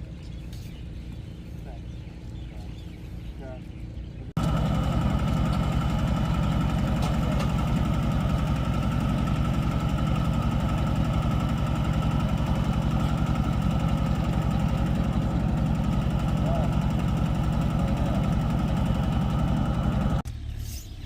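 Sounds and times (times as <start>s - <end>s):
vehicle engine running: 0.0s - 20.6s.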